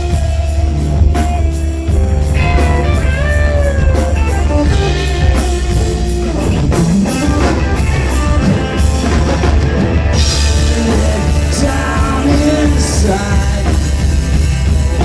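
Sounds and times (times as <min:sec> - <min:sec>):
bass: 0:00.0 - 0:15.0
drum kit with cymbal beat: 0:00.0 - 0:15.0
electric guitar: 0:00.0 - 0:15.0.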